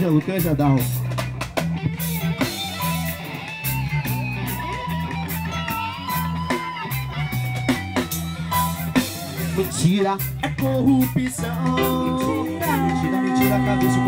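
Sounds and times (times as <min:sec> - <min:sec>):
bass guitar: 0:00.0 - 0:14.0
drums: 0:00.0 - 0:14.0
electric guitar lead: 0:00.0 - 0:14.0.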